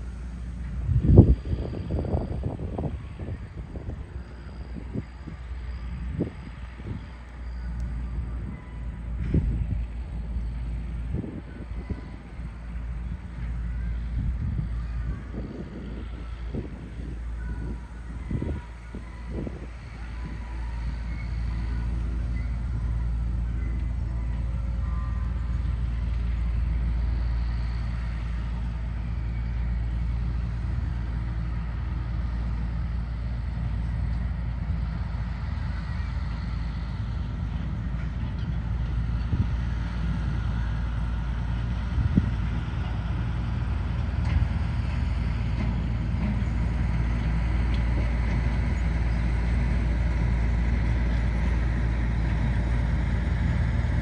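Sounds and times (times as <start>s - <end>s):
diesel locomotive rumbling past: 0.0s - 54.0s.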